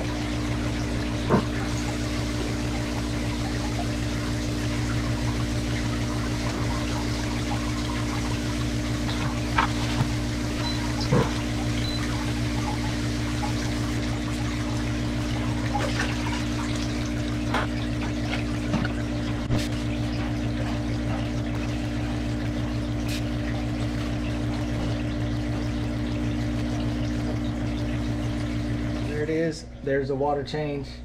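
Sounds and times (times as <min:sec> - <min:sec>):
water splashing and trickling: 0:00.0 - 0:29.5
low motor hum: 0:00.0 - 0:31.0.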